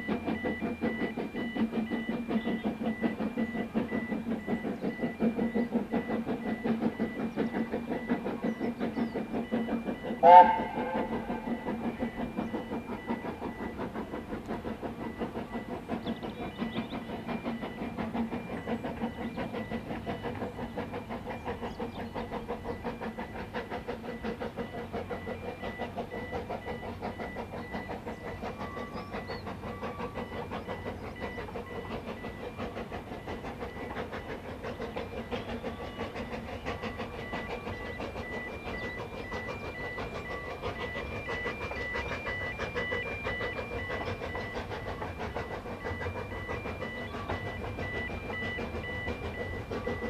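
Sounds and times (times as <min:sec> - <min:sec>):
steam train running: 0:00.0 - 0:50.0.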